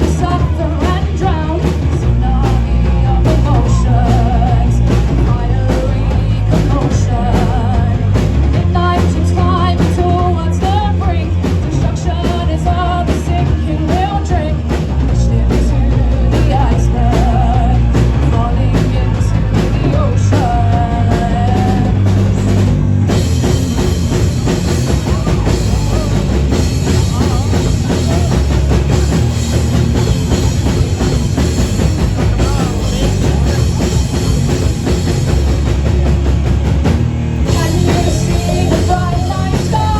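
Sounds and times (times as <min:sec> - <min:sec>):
person singing: 0:00.0 - 0:22.2, 0:24.6 - 0:29.1, 0:31.9 - 0:35.3, 0:37.4 - 0:39.9
live rock band playing: 0:00.0 - 0:39.9.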